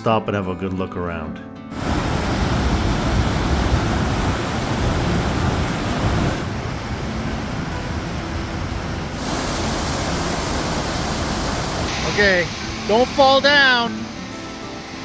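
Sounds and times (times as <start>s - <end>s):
waterfall roaring: 1.8s - 15.0s.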